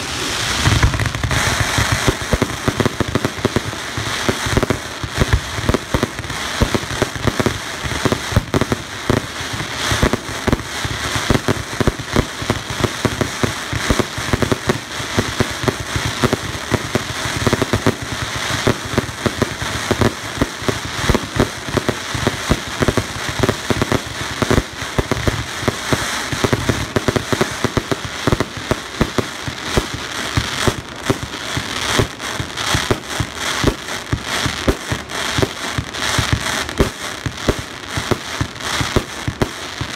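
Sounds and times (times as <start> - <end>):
fireworks bangs and pops: 0.0 - 39.9
fireworks crackling: 0.0 - 39.9.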